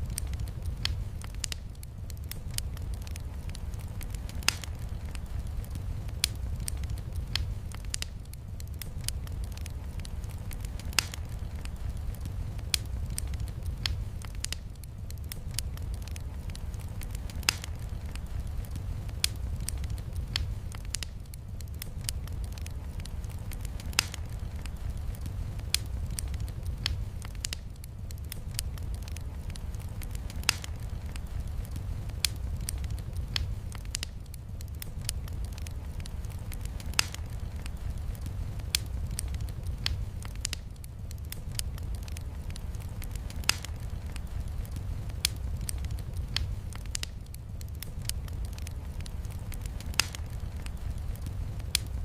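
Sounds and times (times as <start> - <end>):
faint rain hiss: 0.0 - 52.0
wood fire crackling and popping: 0.0 - 52.0.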